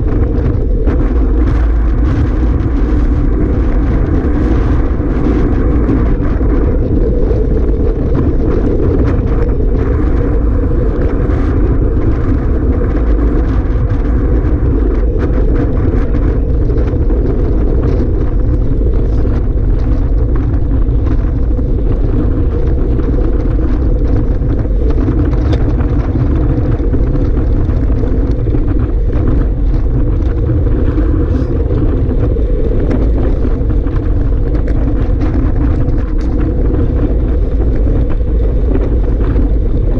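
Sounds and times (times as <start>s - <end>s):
wind blowing over microphone: 0.0s - 39.9s.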